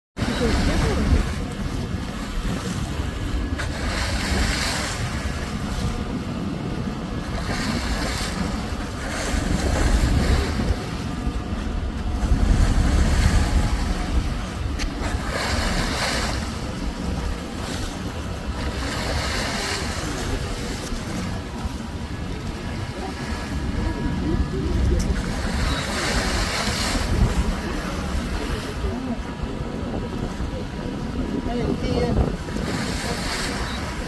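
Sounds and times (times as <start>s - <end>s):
water washing along boat: 0.2s - 34.0s
wind buffeting microphone: 0.2s - 34.0s.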